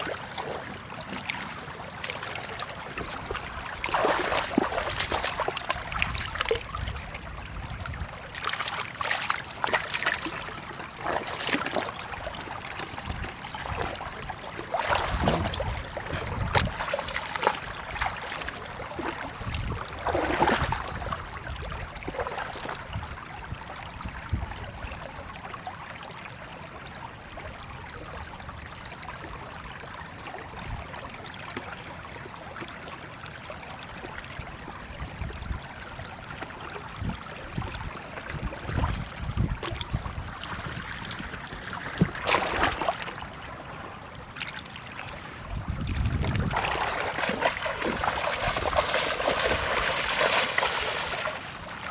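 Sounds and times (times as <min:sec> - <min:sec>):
water splashes: 0:00.0 - 0:24.1, 0:31.5 - 0:51.9.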